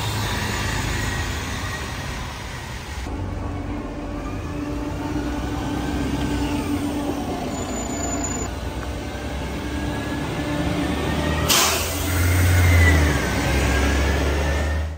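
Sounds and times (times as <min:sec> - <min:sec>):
bus engine humming: 0:00.0 - 0:14.9.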